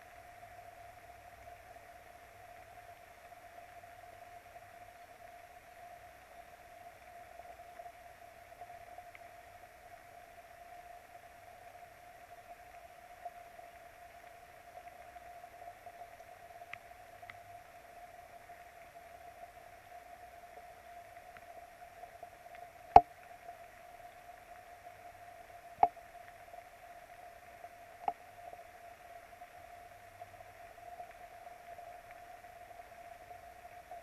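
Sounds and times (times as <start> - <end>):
rain hiss: 0.0 - 34.0.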